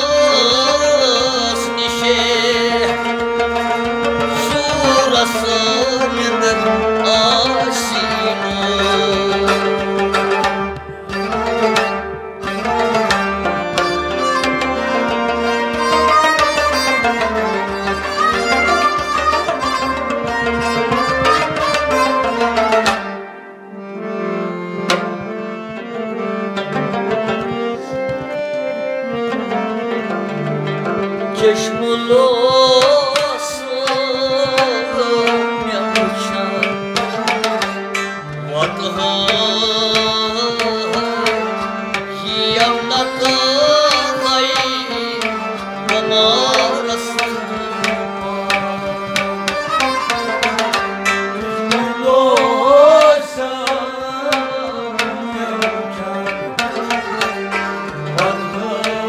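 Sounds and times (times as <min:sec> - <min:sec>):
man singing: 0:00.0 - 0:22.8, 0:31.2 - 0:59.0
harmonium: 0:00.0 - 0:59.0
long-necked string instruments: 0:00.0 - 0:59.0
hand drums: 0:00.1 - 0:23.2, 0:24.5 - 0:59.0.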